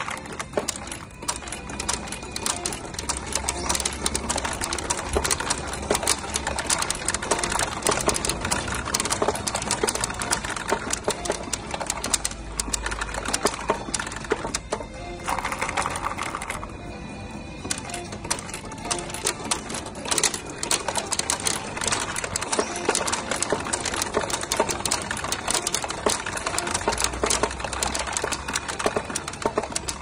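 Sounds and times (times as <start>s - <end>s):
steel balls clattering in pachinko machine: 0.0s - 16.8s, 17.6s - 30.0s.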